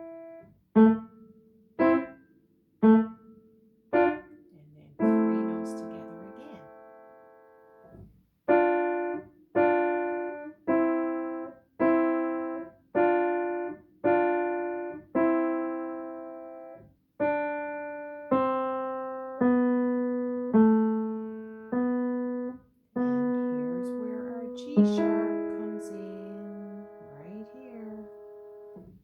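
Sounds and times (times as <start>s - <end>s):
piano played slowly: 0.0s - 29.0s.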